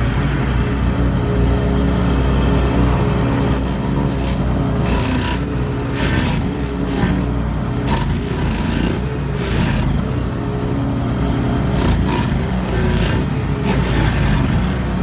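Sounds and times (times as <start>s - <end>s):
petrol engine running: 0.0s - 15.0s
rushing scraping hisses: 0.0s - 15.0s.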